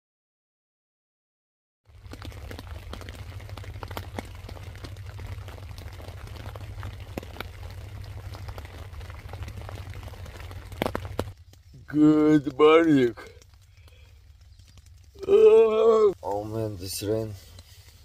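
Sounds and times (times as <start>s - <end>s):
heavy rain drumming on a tent: 1.9s - 18.0s.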